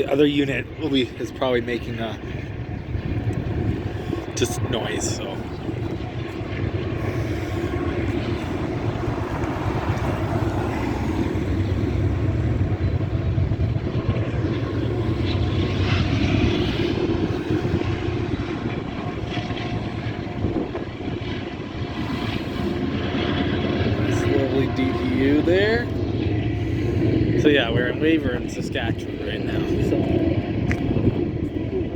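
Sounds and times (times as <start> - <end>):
diesel locomotive drone: 0.0 - 31.9.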